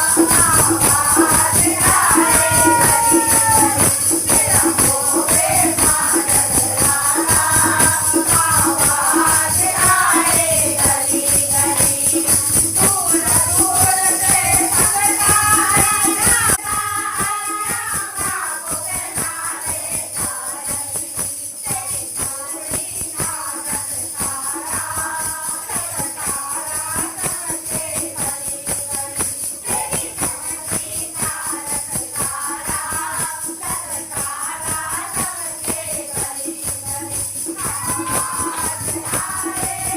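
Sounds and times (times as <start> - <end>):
group singing devotional song: 0.0 - 39.9
jingling hand percussion: 0.0 - 39.9.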